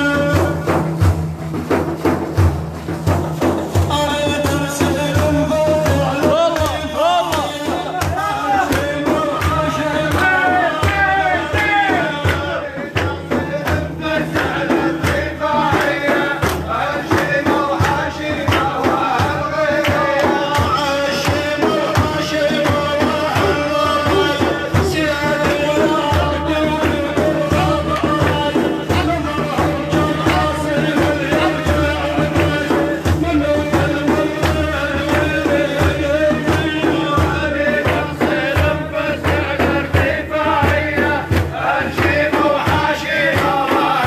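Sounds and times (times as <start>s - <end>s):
man singing melismatically: 0.0s - 1.2s, 3.6s - 44.0s
hand drum beats: 0.0s - 44.0s.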